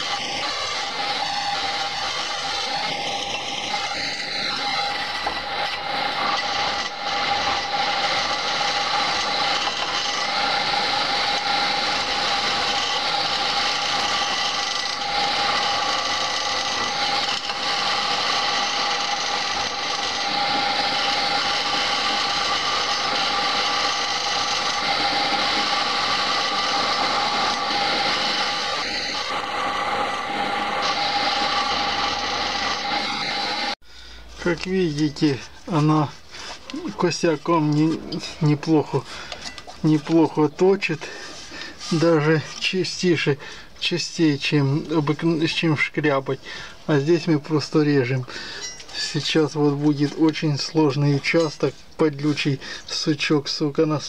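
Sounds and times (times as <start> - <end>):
wood lathe chisel cutting hiss: 0.0 - 33.8, 34.4 - 53.4.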